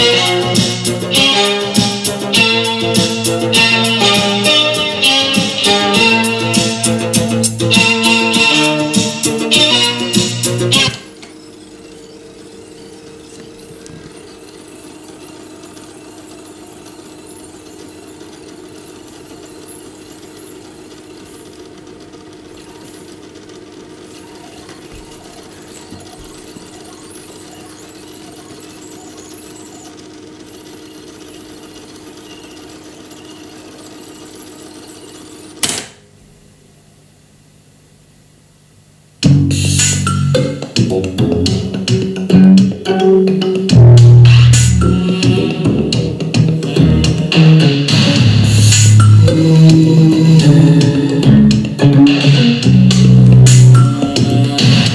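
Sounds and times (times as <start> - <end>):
cassette tape fast-winding whir: 0.0 - 35.8, 39.6 - 54.9.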